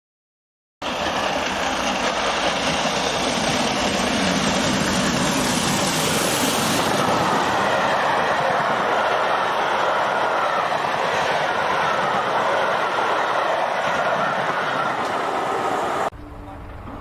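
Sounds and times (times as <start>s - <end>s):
train running: 0.8s - 17.0s.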